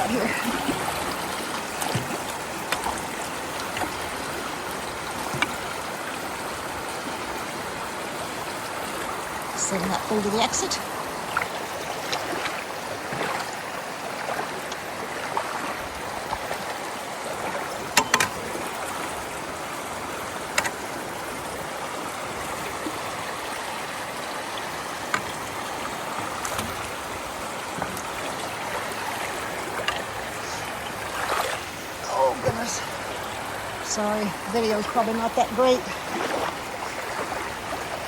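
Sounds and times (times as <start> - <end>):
floodwater rushing: 0.0 - 38.0.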